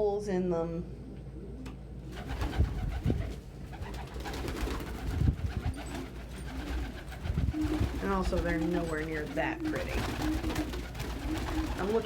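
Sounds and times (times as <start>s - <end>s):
pigeons cooing low: 0.9s - 12.0s.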